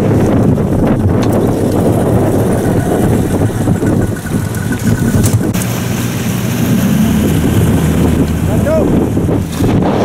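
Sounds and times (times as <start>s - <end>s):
boat motor running: 0.0s - 10.0s
wind buffeting microphone: 0.0s - 10.0s.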